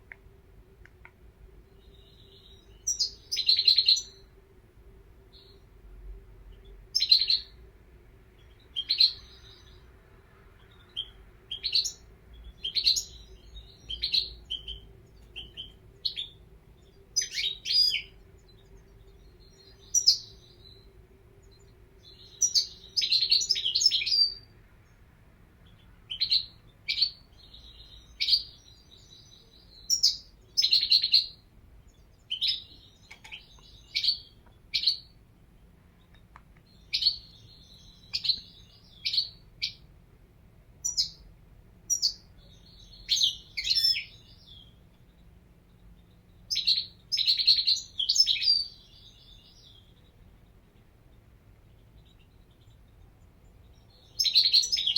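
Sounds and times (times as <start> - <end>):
goldfinch twittering song: 1.7 - 4.3, 6.5 - 7.6, 8.4 - 9.8, 10.6 - 24.5, 25.6 - 35.2, 36.0 - 39.8, 40.8 - 41.3, 41.9 - 54.9.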